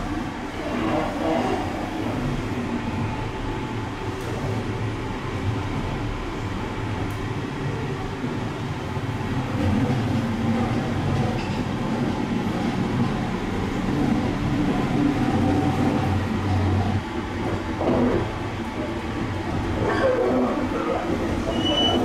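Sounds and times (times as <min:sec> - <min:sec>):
wheel and track rumble: 0:00.0 - 0:22.0.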